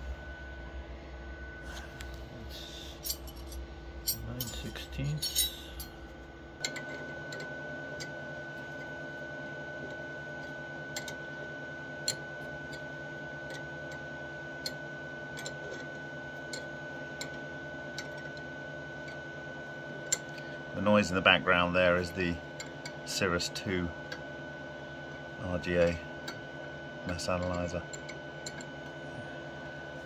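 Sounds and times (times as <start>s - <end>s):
machine hum with high whine: 0.0s - 30.0s.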